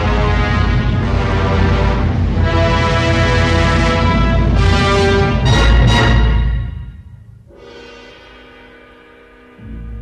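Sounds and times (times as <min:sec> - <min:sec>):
orchestra playing held chords: 0:00.0 - 0:10.0.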